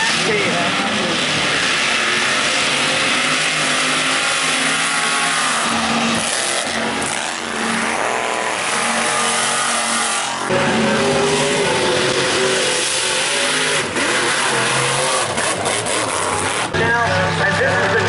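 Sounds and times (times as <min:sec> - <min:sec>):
truck engines at full throttle: 0:00.0 - 0:18.0.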